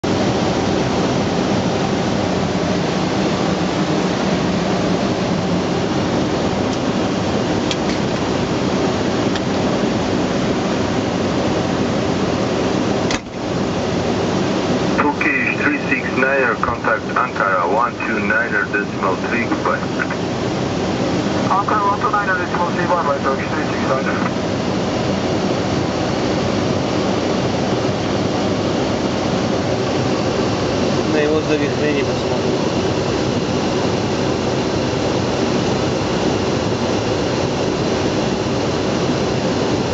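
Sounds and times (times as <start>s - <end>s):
airliner airflow and engine noise: 0.0s - 39.9s.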